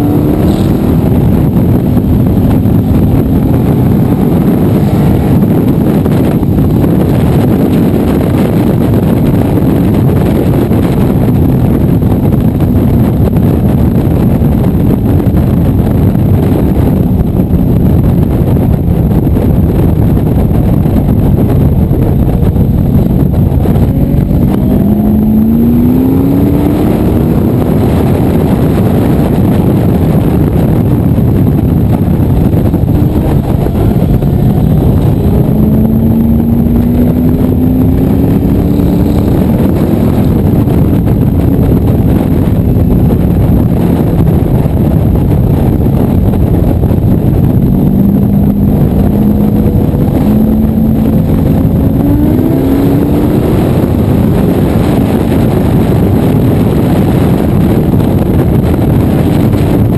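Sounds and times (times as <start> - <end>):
motorcycle engine running loud: 0.0 - 59.9.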